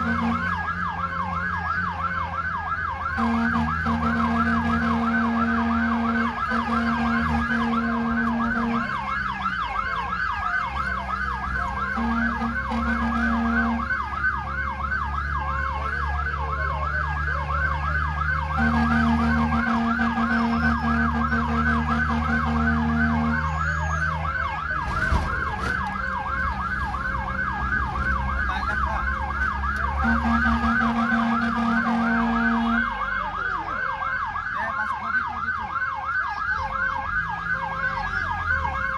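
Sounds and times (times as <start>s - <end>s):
low engine rumble: 0.0s - 38.9s
siren yelping: 0.0s - 38.9s.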